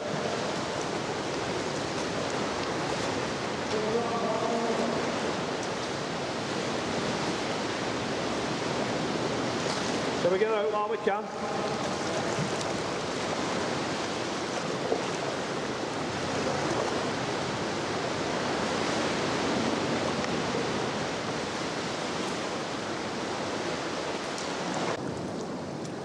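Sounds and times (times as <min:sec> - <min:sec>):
sea surf washing: 0:00.0 - 0:26.0.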